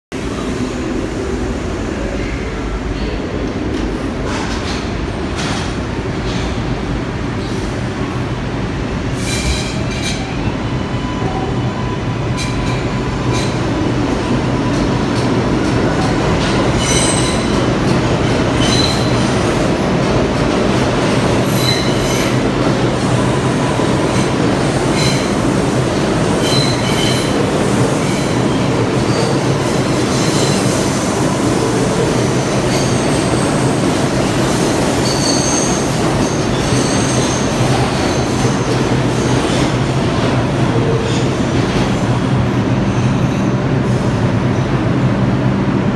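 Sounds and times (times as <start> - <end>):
subway train rumble: 0.1 - 45.9.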